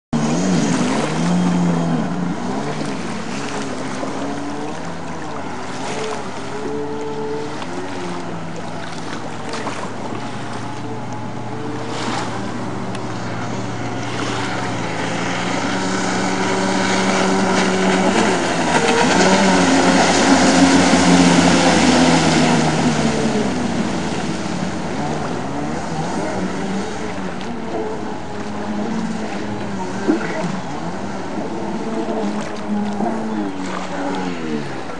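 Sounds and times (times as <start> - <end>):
jet ski engine revving: 0.2 - 34.9.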